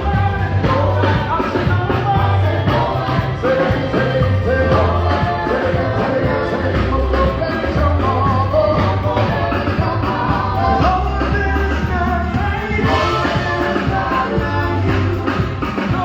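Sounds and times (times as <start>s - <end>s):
bass long low notes: 0.0s - 15.5s
drums steady beat: 0.0s - 16.0s
person singing: 0.0s - 16.0s.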